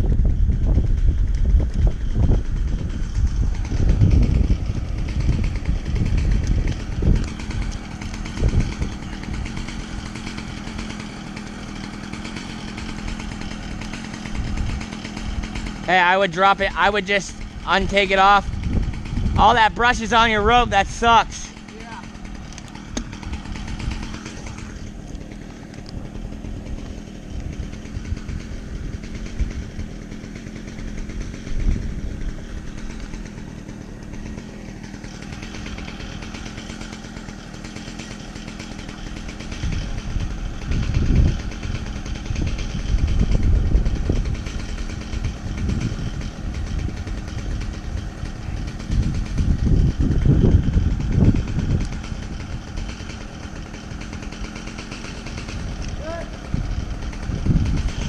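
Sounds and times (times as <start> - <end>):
engine idling: 0.0 - 58.0
low rumbling bursts: 0.0 - 58.0.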